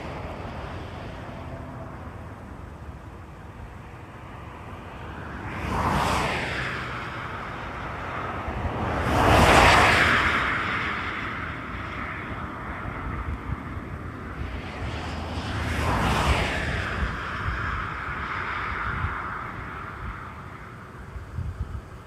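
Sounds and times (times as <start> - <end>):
highway traffic road noise: 0.0 - 22.0
vehicles passing close by: 0.0 - 22.0.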